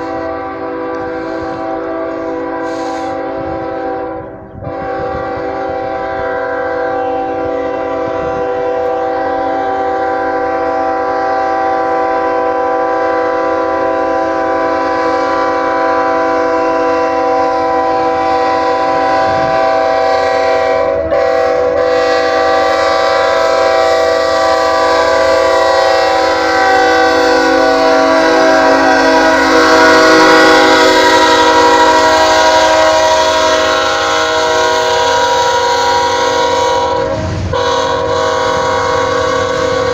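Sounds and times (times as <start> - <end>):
locomotive air horn chord: 0.0 - 39.9
train running noise: 0.0 - 39.9.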